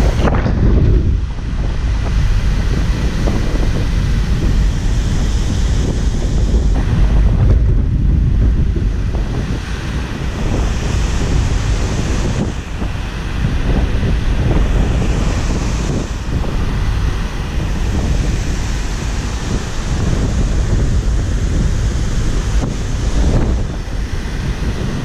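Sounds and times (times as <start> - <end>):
ocean surf breaking: 0.0 - 25.0
wind buffeting microphone: 0.0 - 25.0.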